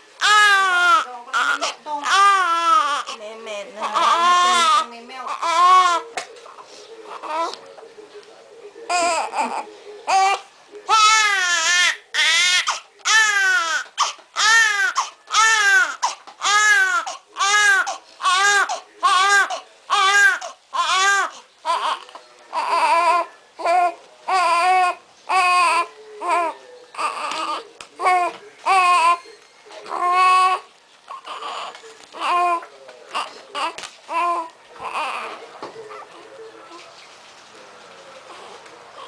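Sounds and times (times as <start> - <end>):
baby crying: 0.2 - 3.2, 3.8 - 6.1, 7.1 - 7.6, 8.9 - 35.4.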